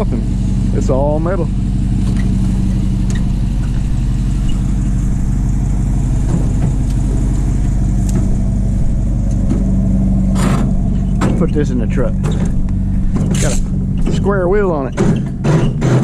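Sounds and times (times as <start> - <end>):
truck engine idling: 0.0 - 16.0
metal clanking: 1.6 - 16.0.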